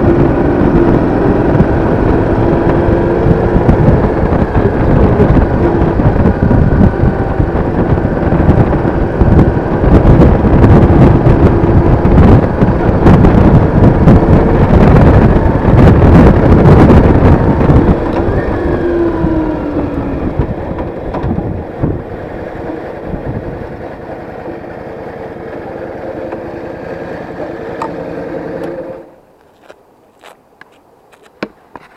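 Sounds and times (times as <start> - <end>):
wind buffeting microphone: 0.0 - 28.0
motorcycle engine running: 0.0 - 30.3.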